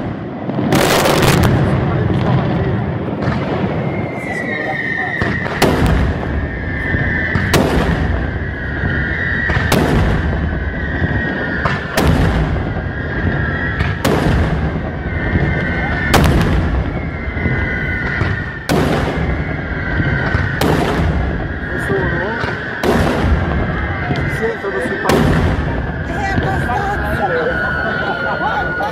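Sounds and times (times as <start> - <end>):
crackling and rumbling charges: 0.0 - 28.9.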